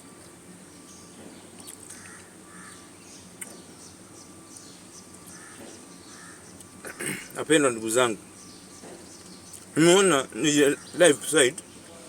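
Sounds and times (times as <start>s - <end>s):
steady low hum: 0.0s - 12.0s
faint bird calls and chirps: 0.2s - 12.0s.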